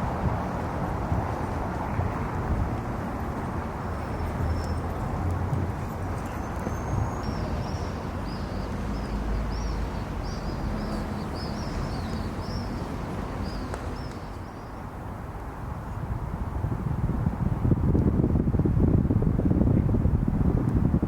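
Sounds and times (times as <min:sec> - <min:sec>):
low city ambience rumble: 0:00.0 - 0:21.0.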